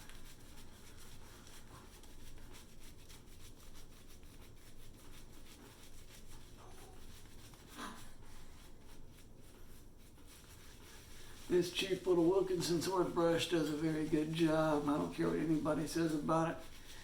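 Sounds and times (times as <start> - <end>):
shaving brush swishing lather: 0.0 - 17.0.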